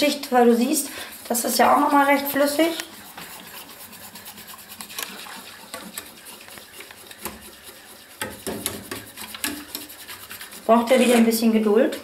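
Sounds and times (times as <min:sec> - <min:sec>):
whisk scraping a metal pan: 0:00.0 - 0:12.0
whisk tapping: 0:01.2 - 0:10.8.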